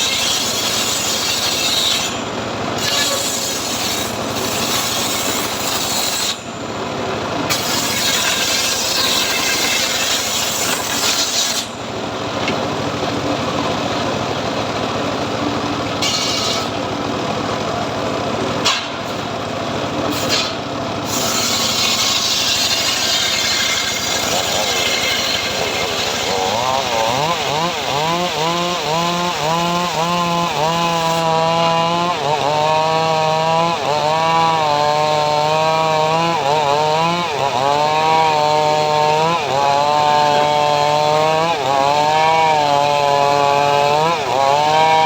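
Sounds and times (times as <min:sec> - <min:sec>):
saw rasping through wood: 0:00.0 - 0:06.5, 0:07.5 - 0:11.8, 0:16.0 - 0:16.8, 0:20.1 - 0:45.0.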